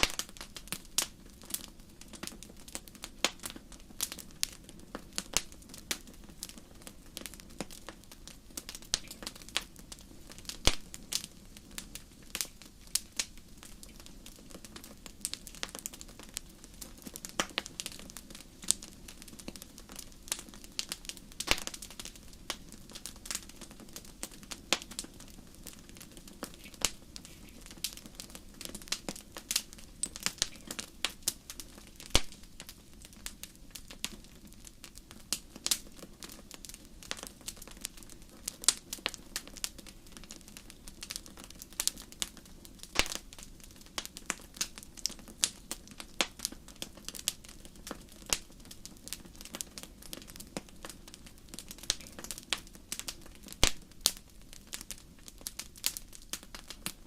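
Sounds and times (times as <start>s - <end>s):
low rush of burning fire: 0.0s - 57.0s
wood fire popping and snapping: 0.0s - 57.0s.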